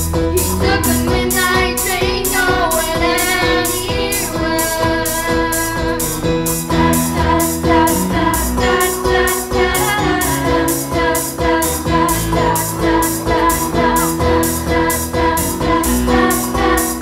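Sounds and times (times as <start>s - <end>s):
backing track with steady beat: 0.0s - 17.0s
children singing pop song: 0.0s - 17.0s.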